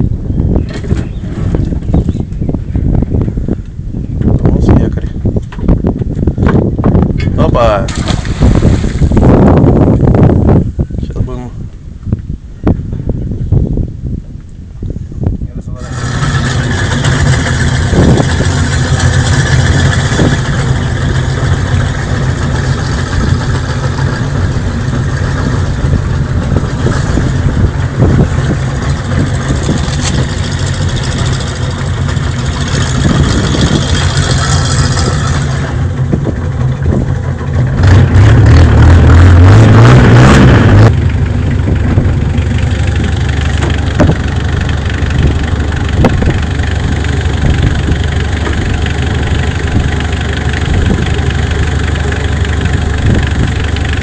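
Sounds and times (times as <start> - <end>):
boat engine running and revving: 0.0 - 10.7, 15.7 - 54.0.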